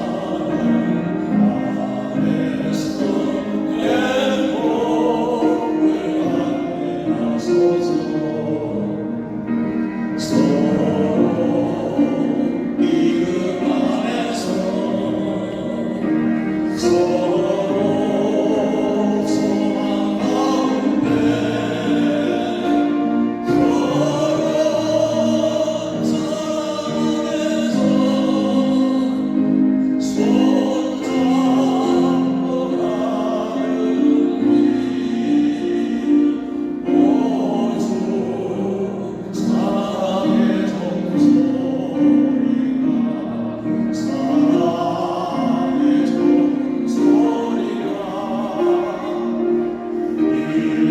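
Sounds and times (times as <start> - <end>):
group singing a hymn: 0.0 - 50.9
musical accompaniment: 0.0 - 50.9.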